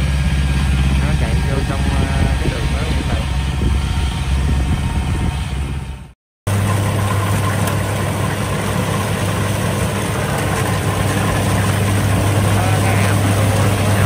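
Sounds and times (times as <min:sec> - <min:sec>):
farm machinery engine running: 0:00.0 - 0:14.0.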